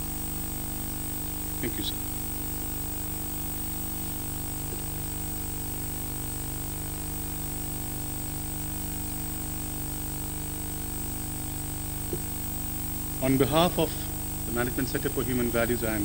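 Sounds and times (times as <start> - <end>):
electrical hum and hiss: 0.0 - 16.0
thin high whine: 0.0 - 16.0.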